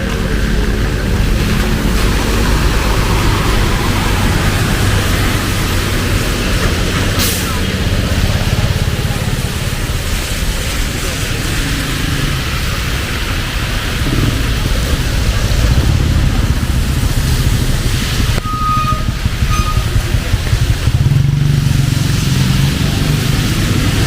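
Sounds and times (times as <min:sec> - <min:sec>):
heavy rain pouring: 0:00.0 - 0:24.0
passing traffic rumble: 0:00.0 - 0:24.0.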